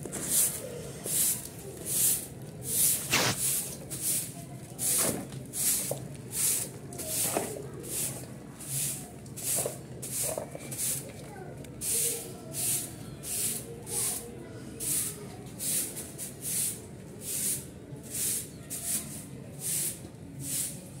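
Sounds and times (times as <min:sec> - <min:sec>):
broom sweeping concrete floor: 0:00.0 - 0:21.0.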